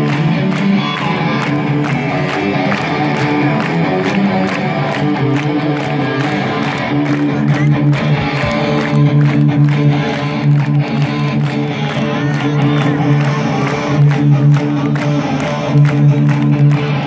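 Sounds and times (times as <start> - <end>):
electric guitars: 0.0 - 17.0
live rock band playing: 0.0 - 17.0.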